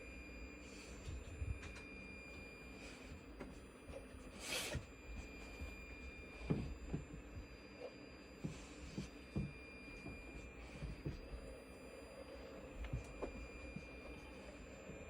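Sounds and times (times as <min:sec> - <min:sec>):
high-pitched light whine: 0:00.0 - 0:15.0.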